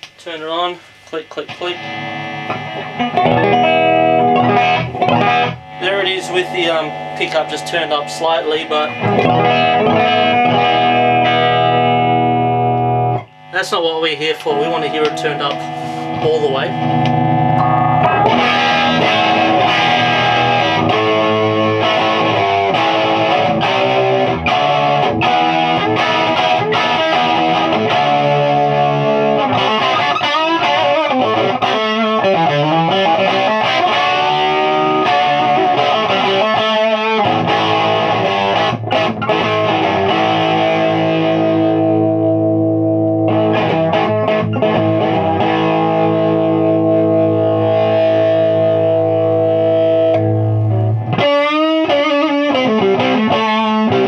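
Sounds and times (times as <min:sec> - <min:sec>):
overdriven electric guitar: 0:01.5 - 0:13.6, 0:14.3 - 0:54.0.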